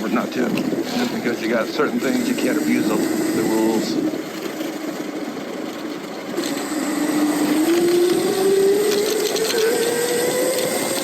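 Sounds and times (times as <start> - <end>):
wind and road noise: 0.0 - 11.0
electric motor whining: 0.2 - 11.0.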